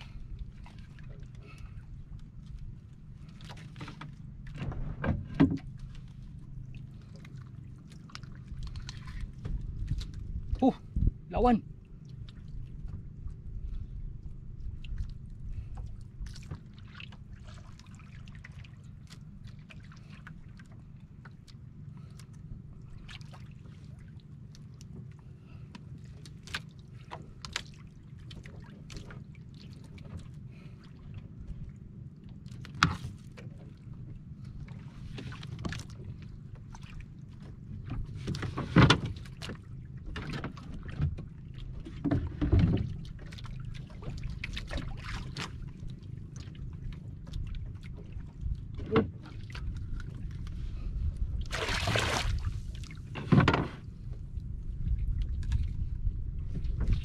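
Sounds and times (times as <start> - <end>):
knocks and clicks in boat: 0.0 - 57.0
water lapping against boat hull: 0.0 - 57.0.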